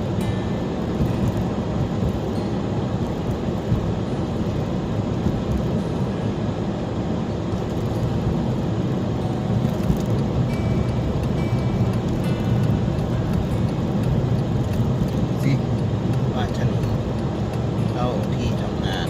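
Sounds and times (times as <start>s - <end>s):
car engine: 0.0s - 19.0s
road noise: 0.0s - 19.0s.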